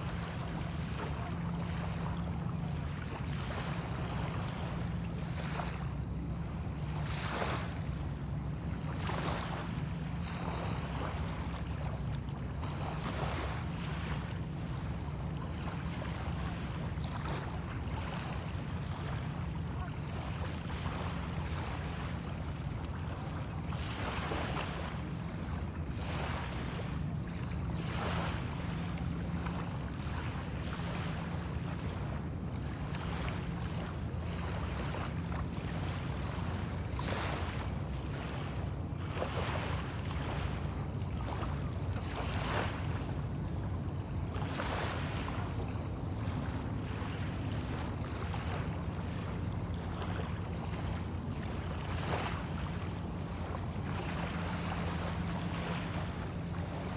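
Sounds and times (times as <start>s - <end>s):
small waves washing onto shore: 0.0s - 56.9s.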